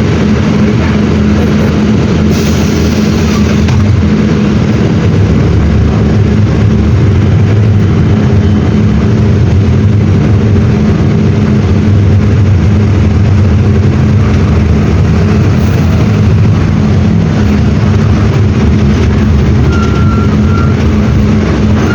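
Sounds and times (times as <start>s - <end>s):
diesel engine drone: 0.0s - 21.9s.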